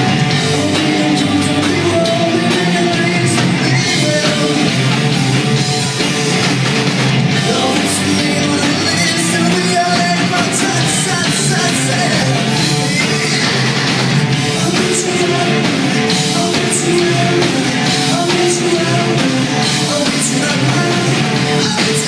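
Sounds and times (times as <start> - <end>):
person singing: 0.0 - 5.2, 7.3 - 22.0
drums: 0.0 - 22.0
electric guitars: 0.0 - 22.0.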